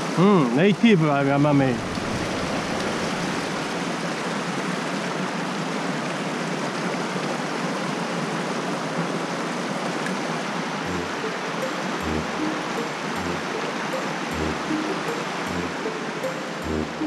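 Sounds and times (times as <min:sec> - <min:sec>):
mountain stream water rushing: 0:00.0 - 0:17.0.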